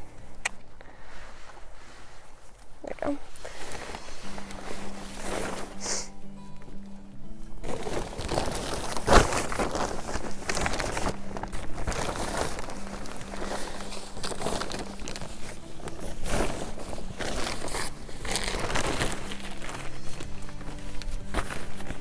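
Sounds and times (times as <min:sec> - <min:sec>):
plastic tarp rustling and crackling: 0:01.4 - 0:06.2, 0:07.5 - 0:22.0.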